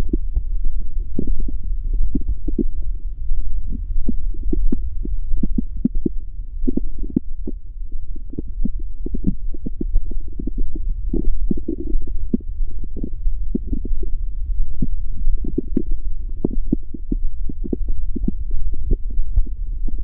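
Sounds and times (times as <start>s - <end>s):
stomach growling: 1.1s - 2.8s, 3.6s - 7.6s, 8.3s - 20.0s.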